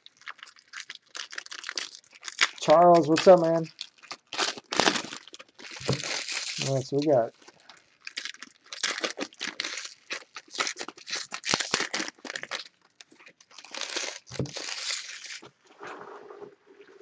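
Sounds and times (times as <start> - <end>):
plastic wrap crinkling and tearing: 0.0 - 15.6.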